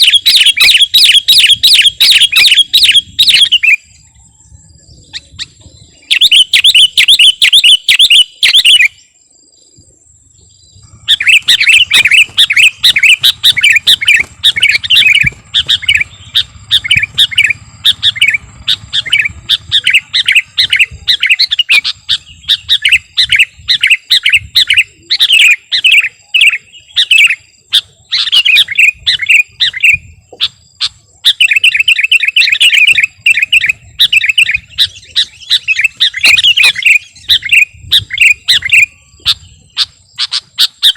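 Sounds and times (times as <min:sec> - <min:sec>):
bulbul singing chattering phrases: 0:00.0 - 0:40.9.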